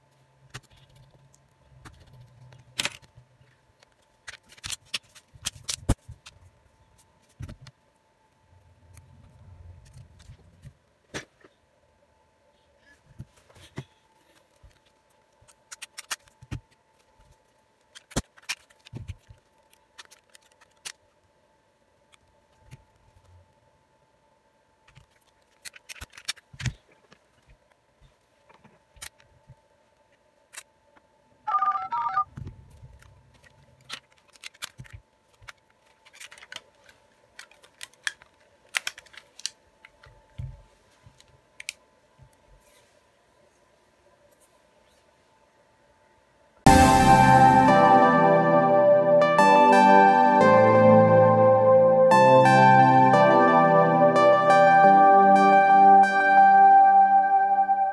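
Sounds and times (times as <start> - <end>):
faint steady hum: 0.0 - 57.9.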